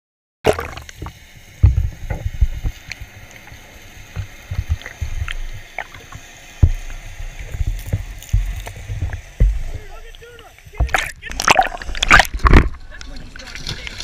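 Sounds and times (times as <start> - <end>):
underwater thumps and rushes: 0.4 - 14.0
faint underwater clicks: 0.5 - 14.0.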